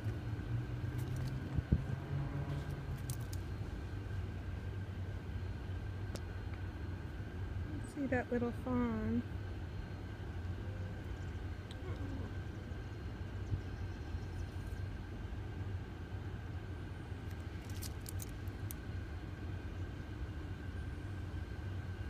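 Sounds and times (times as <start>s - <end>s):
low mechanical hum: 0.0s - 22.0s
faint thin whine: 2.4s - 22.0s.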